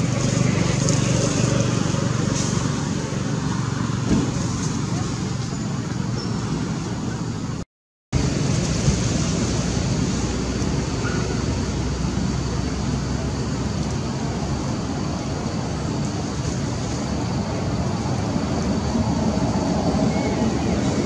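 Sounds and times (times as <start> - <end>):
low rushing outdoor noise: 0.0 - 7.6, 8.2 - 21.0.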